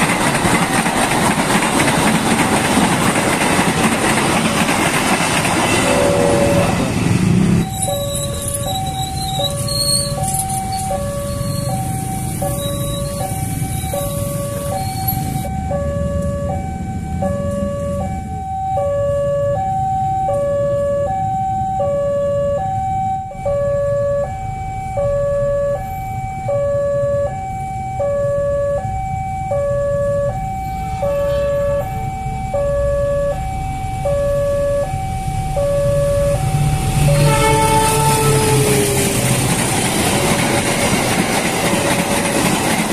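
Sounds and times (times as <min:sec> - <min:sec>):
train rumble: 0:00.0 - 0:21.4, 0:28.2 - 0:42.9
level crossing two-tone alarm: 0:05.6 - 0:06.9, 0:07.6 - 0:42.8.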